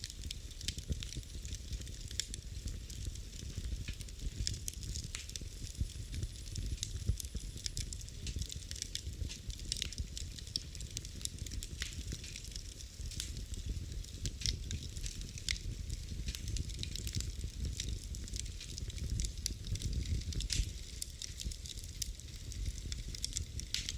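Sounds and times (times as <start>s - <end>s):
low rumble of flame: 0.0s - 23.9s
wood fire crackling: 0.0s - 23.9s.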